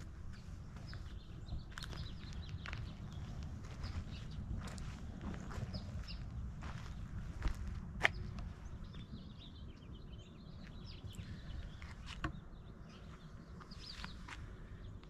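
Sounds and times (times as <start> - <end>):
faint small birds chirping: 0.0 - 15.0
steady low rumble: 0.0 - 15.0.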